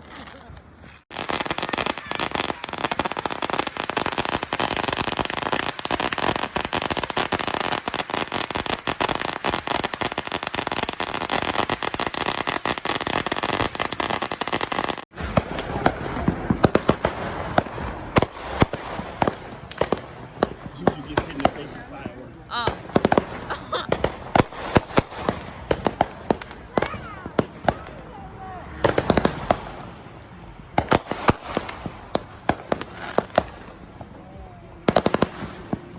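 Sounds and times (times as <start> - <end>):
firecrackers crackling: 0.0 - 35.9
loud firecracker cracks: 0.0 - 35.9.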